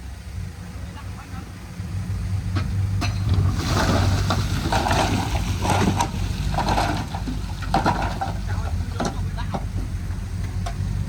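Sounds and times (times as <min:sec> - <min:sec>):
diesel engine humming: 0:00.0 - 0:11.0
dirt and rock rushing: 0:00.6 - 0:11.0.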